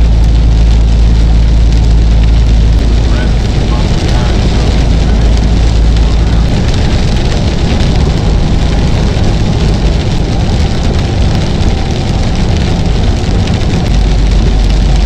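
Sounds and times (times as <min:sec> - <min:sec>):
rain on windshield: 0:00.0 - 0:15.0
truck engine and road rumble: 0:00.0 - 0:15.0.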